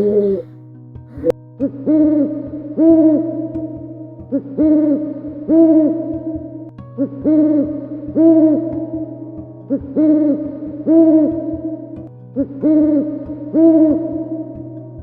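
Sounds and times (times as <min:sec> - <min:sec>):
owl hooting: 0:00.0 - 0:00.5, 0:01.2 - 0:03.6, 0:04.3 - 0:14.7.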